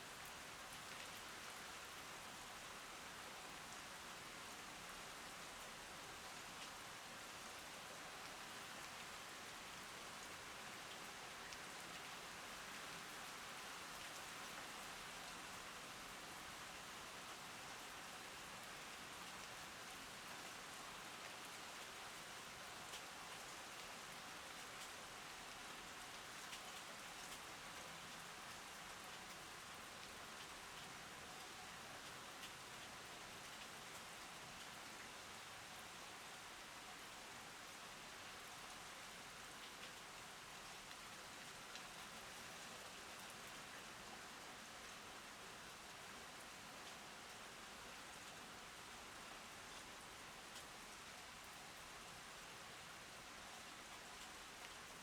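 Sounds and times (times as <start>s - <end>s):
heavy rain on plants: 0.1s - 55.0s.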